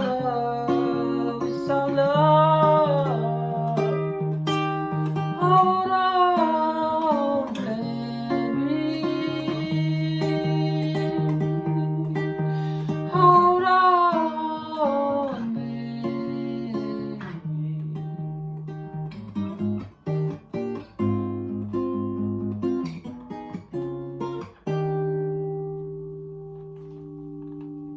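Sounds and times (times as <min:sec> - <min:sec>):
acoustic guitar music: 0:00.0 - 0:27.9.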